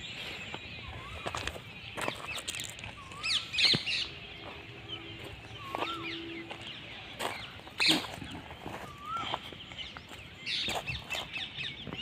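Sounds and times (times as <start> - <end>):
bird whistled call: 0.0 - 9.8
bird chirps: 0.0 - 12.0.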